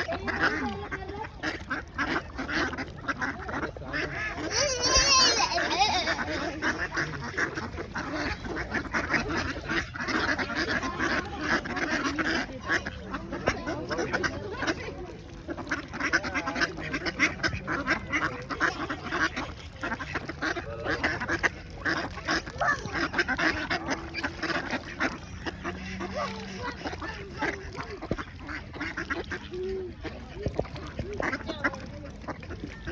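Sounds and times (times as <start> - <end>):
ducks quacking: 0.0 - 32.9.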